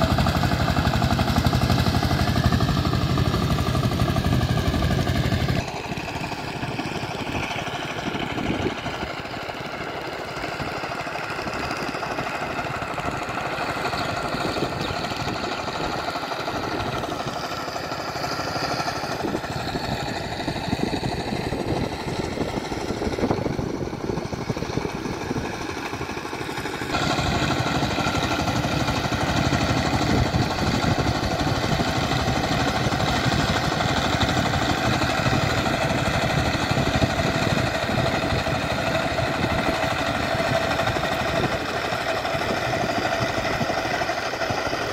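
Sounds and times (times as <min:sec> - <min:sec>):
power tiller engine knocking: 0:00.0 - 0:44.9.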